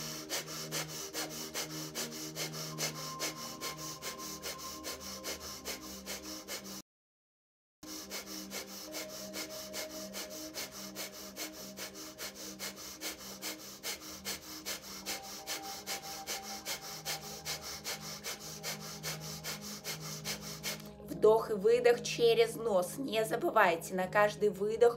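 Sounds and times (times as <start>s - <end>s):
rapid forceful nasal breathing: 0.0s - 6.8s, 7.8s - 21.0s.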